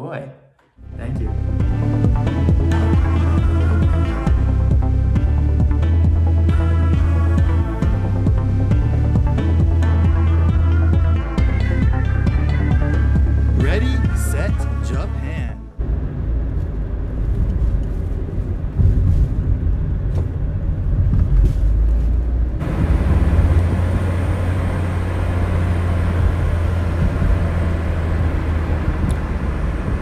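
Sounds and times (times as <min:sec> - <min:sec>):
car engine and tyre rumble: 0:00.8 - 0:30.0.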